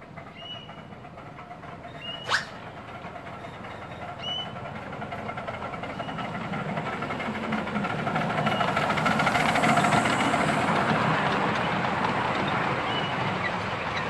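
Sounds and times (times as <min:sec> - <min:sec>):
miniature railway train running: 0:00.0 - 0:14.0.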